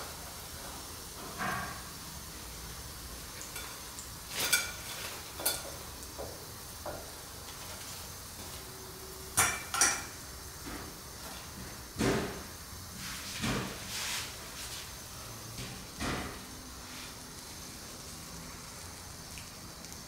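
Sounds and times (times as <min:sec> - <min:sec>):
oil sizzling in a wok: 0:00.0 - 0:20.0.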